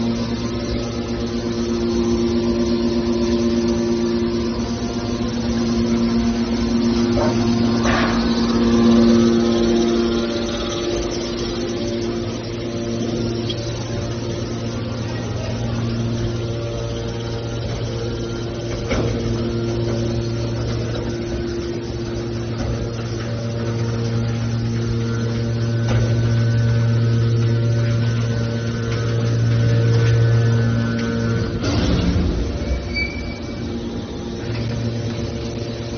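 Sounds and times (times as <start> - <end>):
heavy machinery humming: 0.0 - 35.9
higher machine tones: 0.0 - 35.9.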